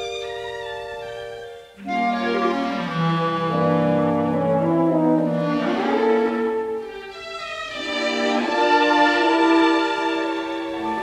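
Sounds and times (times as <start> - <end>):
orchestral strings music: 0.0 - 11.0.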